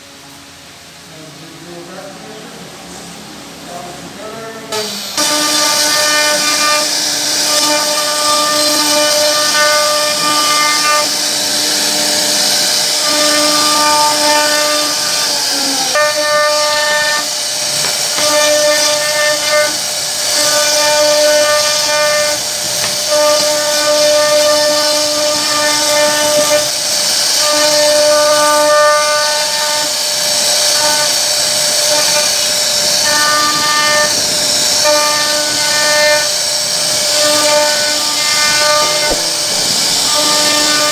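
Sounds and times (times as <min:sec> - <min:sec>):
bit hissing through wood: 0:04.1 - 0:40.9
router spindle whine: 0:04.1 - 0:40.9.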